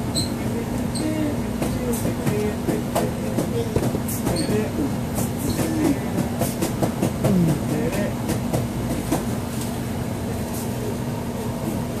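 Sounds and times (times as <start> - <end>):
loud mechanical hum: 0.0 - 12.0.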